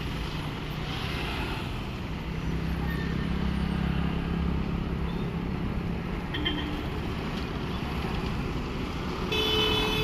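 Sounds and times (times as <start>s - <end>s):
bus diesel engine hum: 0.0s - 10.0s.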